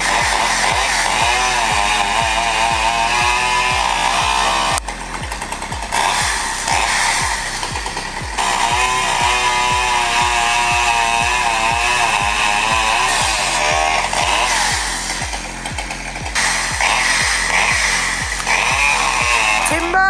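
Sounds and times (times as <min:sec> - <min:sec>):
chainsaw running: 0:00.0 - 0:20.0
music with thumping beat: 0:00.0 - 0:20.0.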